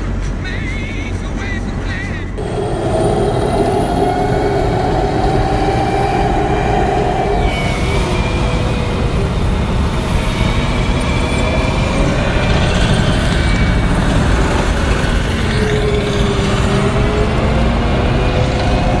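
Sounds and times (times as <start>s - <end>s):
tracked vehicle engine drone: 0.0s - 19.0s
faint wavering whine: 2.4s - 19.0s.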